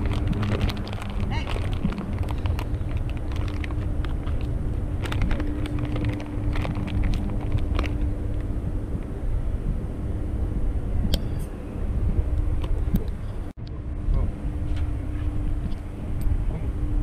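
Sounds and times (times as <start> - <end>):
steady hum: 0.0 - 17.0
steady low rumble: 0.0 - 17.0.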